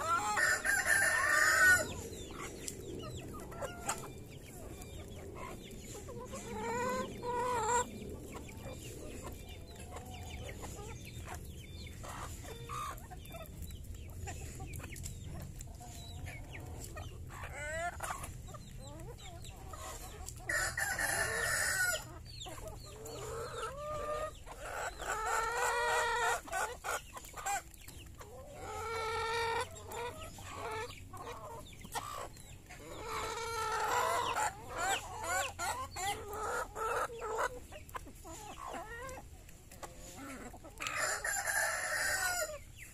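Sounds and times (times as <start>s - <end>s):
chickens clucking: 0.0s - 42.9s
chickens pecking at feed: 0.0s - 42.9s.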